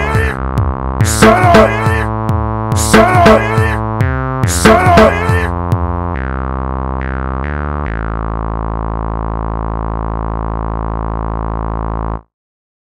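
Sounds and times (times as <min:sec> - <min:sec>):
synthesizer bass notes: 0:00.0 - 0:12.3.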